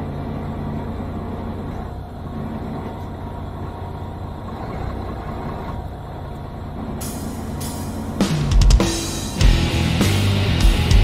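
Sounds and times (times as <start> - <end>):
boat engine running: 0.0 - 10.2.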